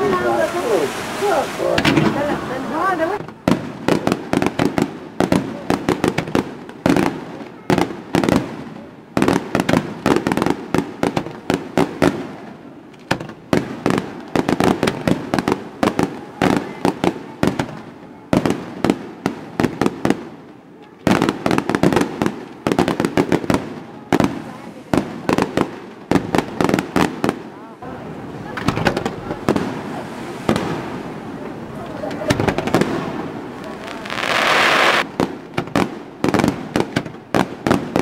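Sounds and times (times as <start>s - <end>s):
fireworks launching and bursting: 0.0s - 27.5s, 28.4s - 38.0s.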